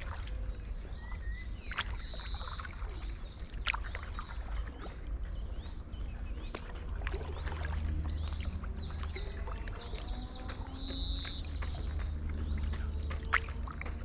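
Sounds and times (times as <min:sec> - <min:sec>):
paddle splashing in water: 0:00.0 - 0:14.0
small birds chirping: 0:00.0 - 0:14.0
wind rumble on microphone: 0:00.0 - 0:14.0.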